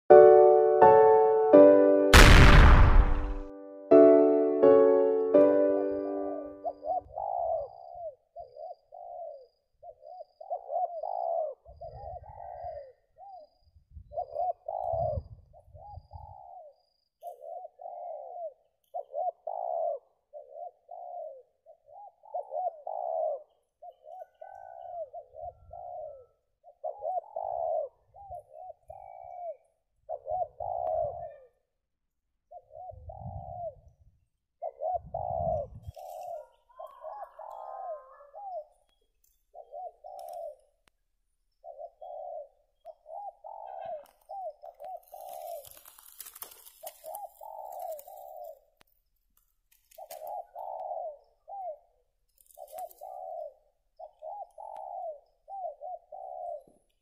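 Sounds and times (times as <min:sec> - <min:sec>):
doves cooing: 0:06.4 - 0:31.7, 0:32.4 - 0:34.0, 0:34.6 - 0:38.9, 0:39.5 - 0:40.8, 0:41.6 - 0:48.7, 0:49.9 - 0:57.0.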